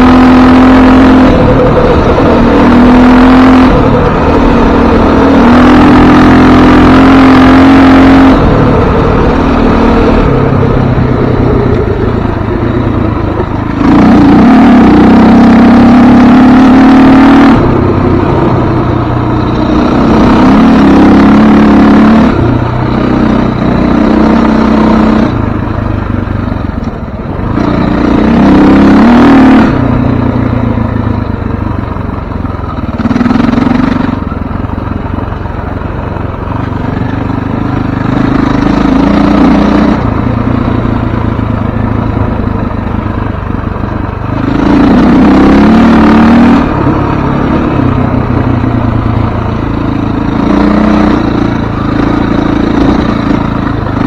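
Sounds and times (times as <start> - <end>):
off-road vehicle engine revving: 0.0 - 25.5, 27.4 - 31.1, 32.9 - 34.3, 37.7 - 43.2, 44.1 - 54.0.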